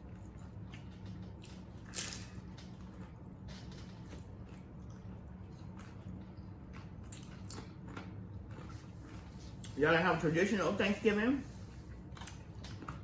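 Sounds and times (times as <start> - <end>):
crunchy food bitten and chewed: 0.0 - 9.8, 11.8 - 13.0
steady low hum: 0.0 - 13.0.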